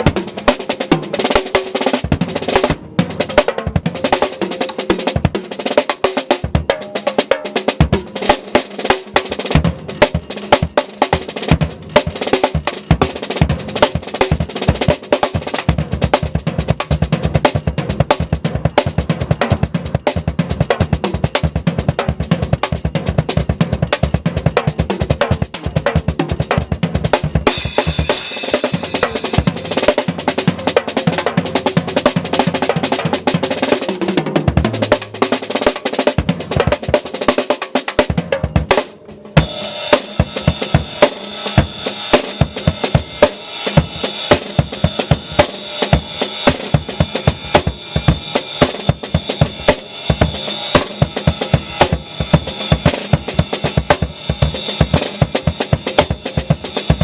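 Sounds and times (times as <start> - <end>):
ringing cymbals: 0.0 - 34.0, 39.4 - 57.0
bass drum and snare beat: 0.0 - 57.0
drum fills: 0.0 - 57.0.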